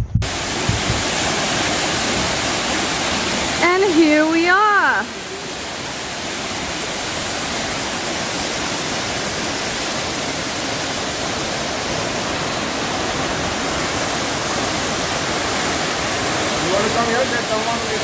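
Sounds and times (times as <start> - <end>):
waterfall rushing: 0.2 - 18.0.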